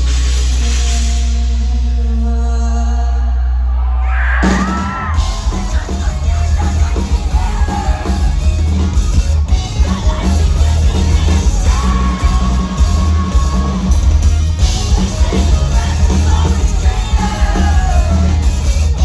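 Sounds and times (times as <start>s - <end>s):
rock band playing live: 0.0s - 2.3s, 4.4s - 19.0s
vocals yelled: 1.7s - 19.0s.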